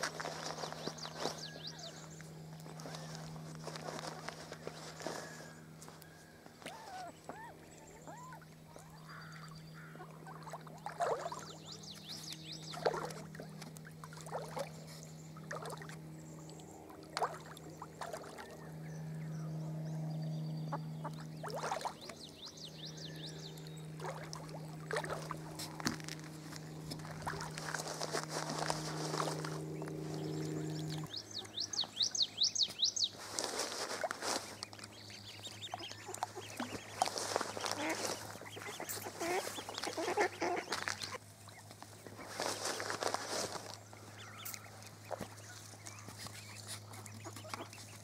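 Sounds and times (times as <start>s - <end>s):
ducklings splashing in water: 0.0s - 6.0s, 6.6s - 18.8s, 20.6s - 48.0s
ducklings peeping: 0.0s - 16.1s, 20.4s - 48.0s
low hum: 0.0s - 48.0s.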